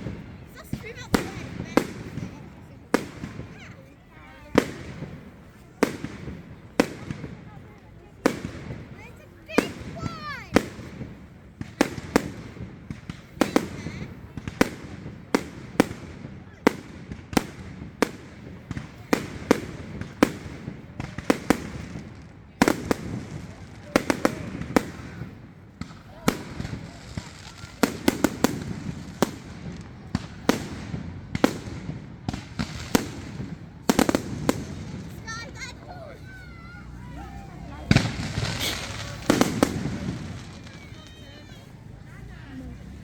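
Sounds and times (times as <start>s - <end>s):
fireworks bangs: 0.0s - 43.0s.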